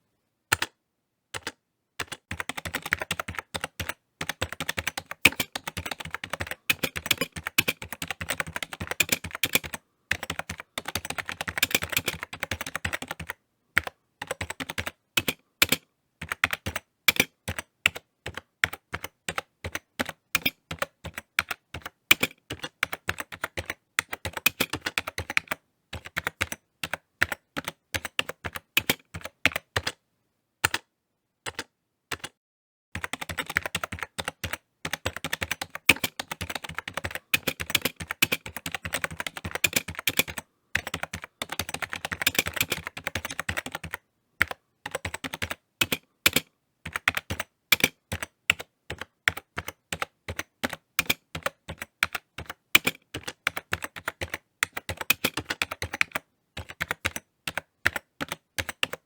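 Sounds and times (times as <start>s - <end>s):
computer keyboard typing: 0.5s - 30.0s, 30.6s - 30.9s, 31.5s - 32.4s, 33.0s - 59.0s.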